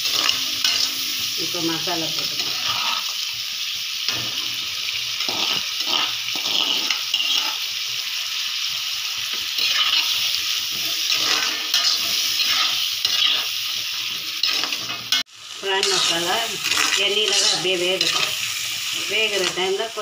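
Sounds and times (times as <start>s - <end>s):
metal spatula scraping a pan: 0.0s - 3.2s, 4.1s - 7.7s, 9.6s - 19.7s
prawns sizzling in hot oil: 0.0s - 20.0s.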